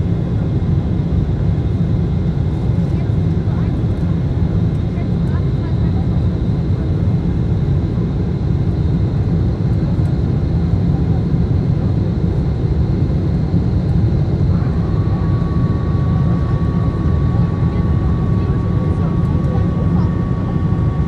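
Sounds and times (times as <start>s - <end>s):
jet cabin low rumble: 0.0s - 21.0s.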